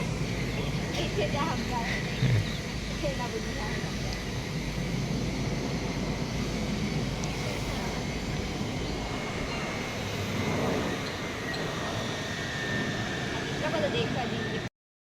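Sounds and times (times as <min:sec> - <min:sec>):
jet aircraft rumble: 0:00.0 - 0:14.7.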